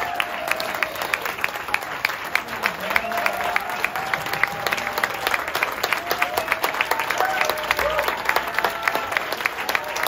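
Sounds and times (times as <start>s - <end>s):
audience clapping: 0.0s - 10.0s.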